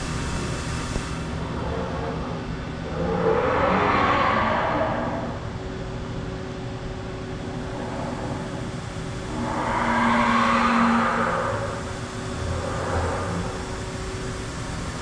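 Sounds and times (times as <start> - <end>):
machining center motor noise: 0.0 - 15.0
steady hum: 0.0 - 15.0.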